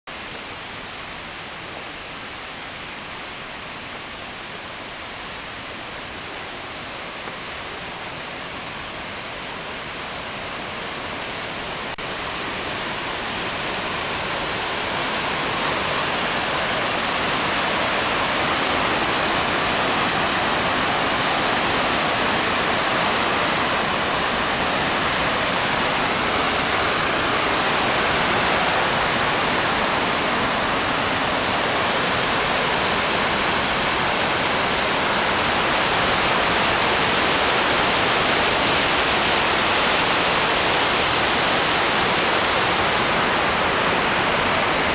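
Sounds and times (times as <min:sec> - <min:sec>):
waterfall rushing: 0:00.1 - 0:44.9.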